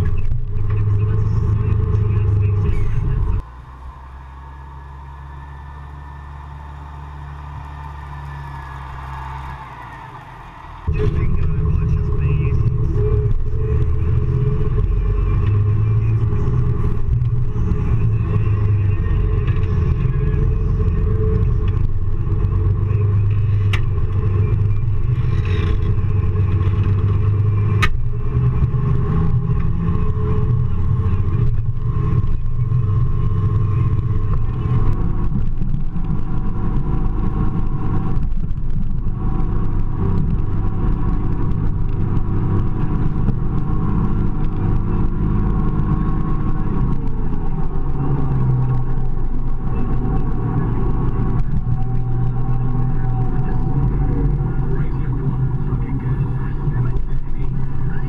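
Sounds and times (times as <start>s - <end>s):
diesel tractor engine rumbling: 0.0s - 58.0s.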